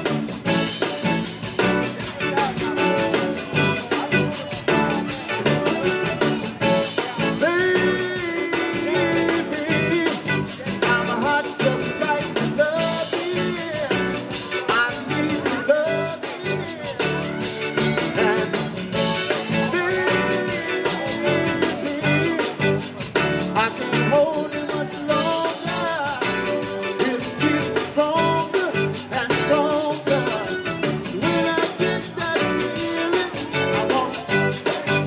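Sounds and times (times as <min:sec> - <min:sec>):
accordion: 0:00.0 - 0:35.0
drums: 0:00.0 - 0:35.0
electric guitar: 0:00.0 - 0:35.0
keyboard: 0:00.0 - 0:35.0.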